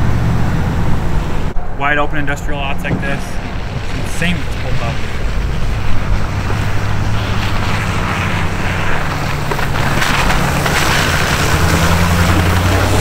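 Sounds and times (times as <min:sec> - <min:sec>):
plow and tyres hissing through snow: 0:00.0 - 0:01.6, 0:02.4 - 0:13.0
truck engine running: 0:00.0 - 0:13.0.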